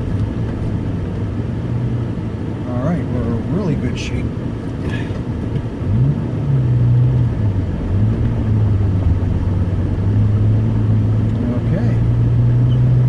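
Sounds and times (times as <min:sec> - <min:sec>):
tractor engine running: 0:00.0 - 0:05.9, 0:07.2 - 0:13.0.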